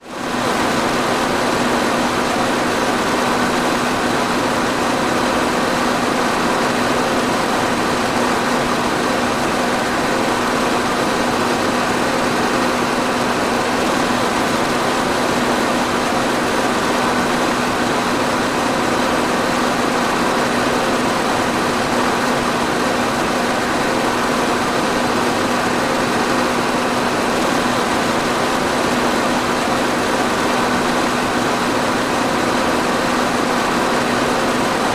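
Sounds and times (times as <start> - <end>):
electric fan running: 0.0 - 34.9.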